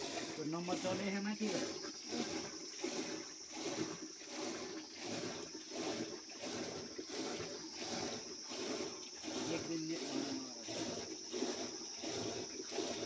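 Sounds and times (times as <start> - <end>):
liquid sloshing in churning pot: 0.0 - 13.0.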